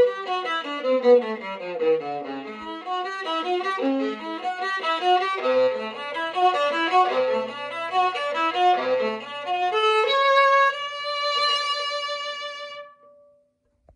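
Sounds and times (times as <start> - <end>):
bowed viola: 0.0 - 13.5.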